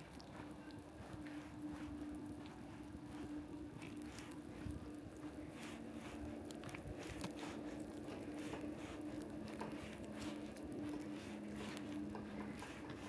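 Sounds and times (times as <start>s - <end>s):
footsteps on wet ground: 0.0s - 13.0s
light rain pattering: 0.0s - 13.0s.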